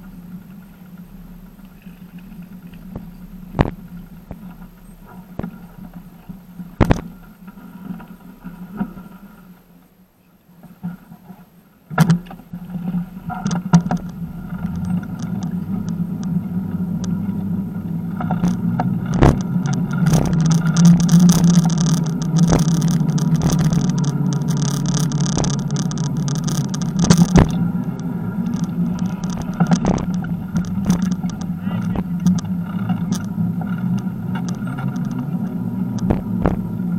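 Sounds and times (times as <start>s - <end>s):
tyres and wind drone: 0.0s - 7.4s, 13.0s - 36.9s
bicycle knocks and rattles: 0.6s - 9.1s, 12.0s - 17.4s, 18.1s - 36.9s.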